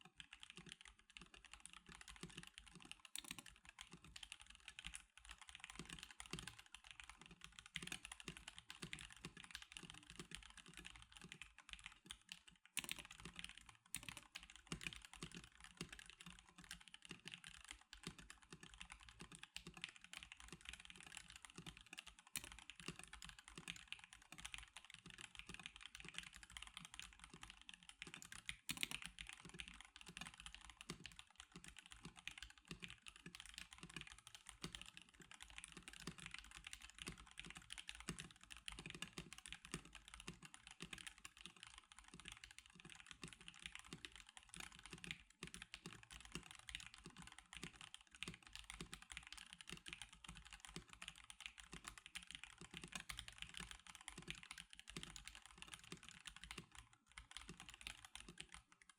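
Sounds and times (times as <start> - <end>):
fast typing on mechanical keyboard: 0.0 - 58.9.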